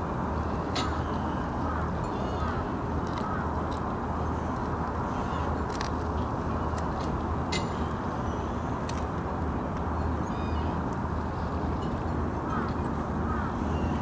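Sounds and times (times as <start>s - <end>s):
low harbour rumble: 0.0s - 14.0s.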